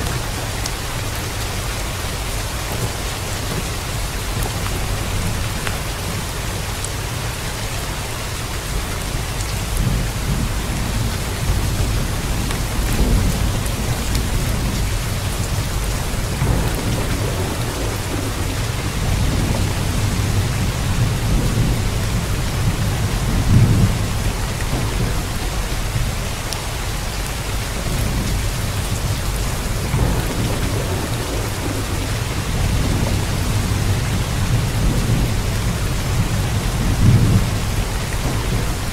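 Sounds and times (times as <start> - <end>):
heavy rain hissing: 0.0 - 38.9
thunder rumbling: 0.0 - 38.9.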